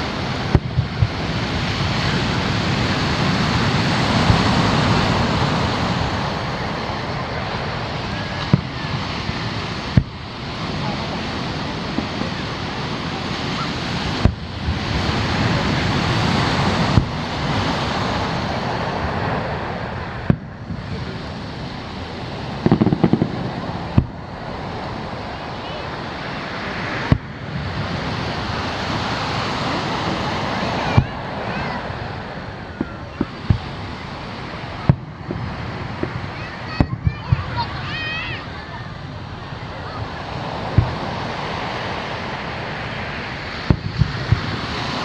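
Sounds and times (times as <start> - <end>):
distant fireworks bursting: 0.0 - 45.0
surf washing on sandy beach: 0.0 - 45.0.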